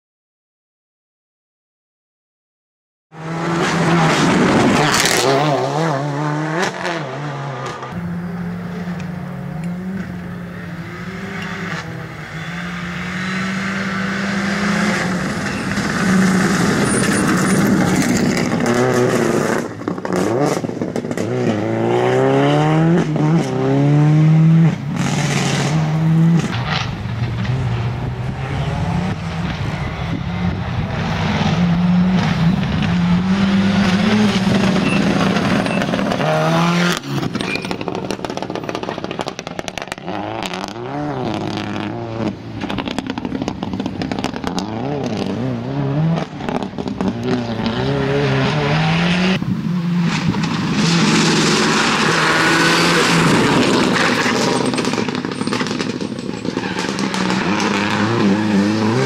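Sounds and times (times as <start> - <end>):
rally car engine revving: 3.2 - 59.0.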